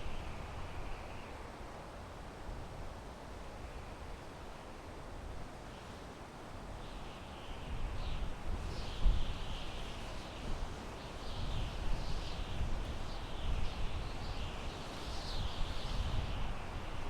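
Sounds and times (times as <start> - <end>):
wind through pine trees: 0.0 - 17.0.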